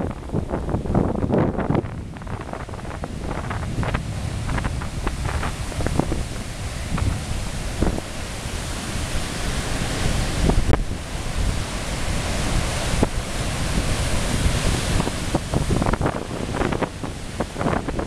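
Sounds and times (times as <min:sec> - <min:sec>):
stormy surf breaking on rocks: 0:00.0 - 0:18.0
wind buffeting microphone: 0:00.0 - 0:18.0.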